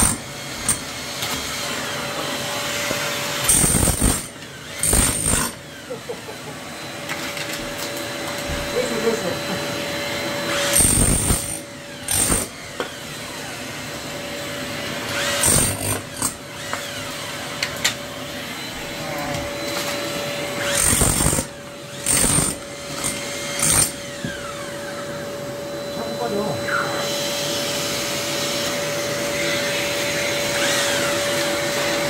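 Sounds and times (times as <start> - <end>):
electric chisel hammer chipping wood: 0.0 - 32.0
vacuum humming: 0.0 - 32.0.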